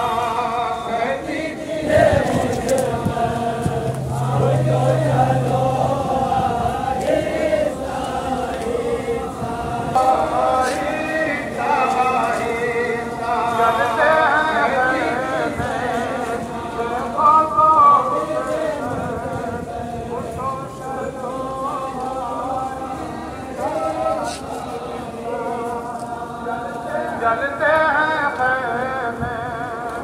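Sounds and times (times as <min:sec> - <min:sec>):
crowd of men chanting in unison: 0:00.0 - 0:30.0.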